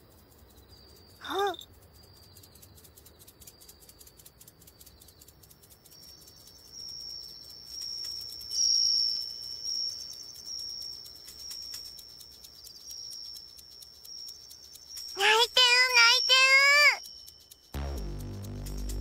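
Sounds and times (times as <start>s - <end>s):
crickets chirping: 0.0s - 17.8s.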